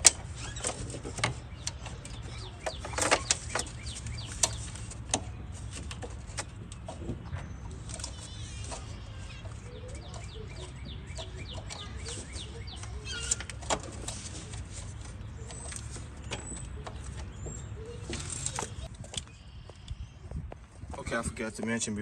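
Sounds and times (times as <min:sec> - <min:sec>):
hand tools clicking and clinking: 0:00.0 - 0:19.2
birds chirping and trilling: 0:00.0 - 0:22.0.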